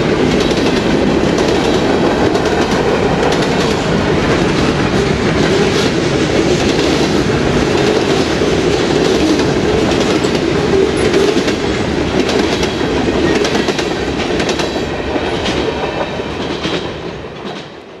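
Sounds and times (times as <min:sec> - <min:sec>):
train wheels clicking over rail joints: 0:00.0 - 0:17.9.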